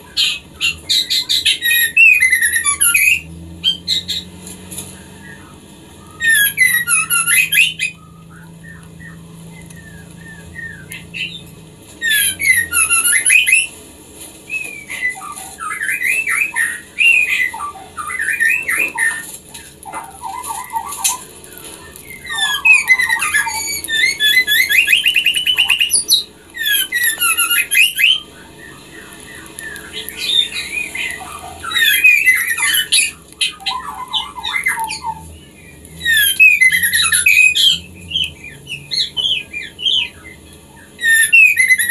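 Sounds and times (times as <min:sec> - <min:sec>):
bird chattering and whistling: 0:00.0 - 0:13.8, 0:14.5 - 0:41.9.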